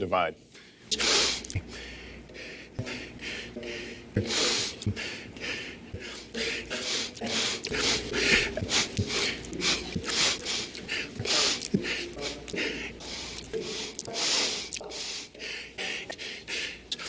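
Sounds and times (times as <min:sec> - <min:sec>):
man sniffling and breathing hard: 0:00.6 - 0:17.0.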